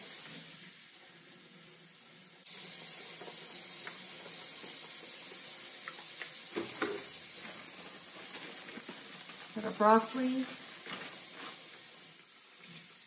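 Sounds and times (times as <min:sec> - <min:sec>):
faucet water splashing: 0:02.5 - 0:13.0.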